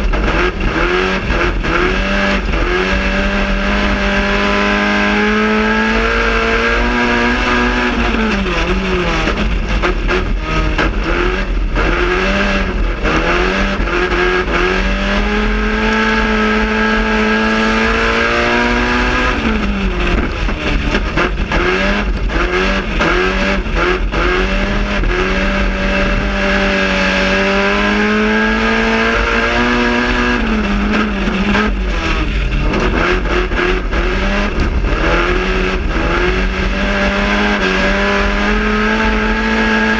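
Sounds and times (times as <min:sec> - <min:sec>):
race car engine at full throttle: 0:00.0 - 0:39.9.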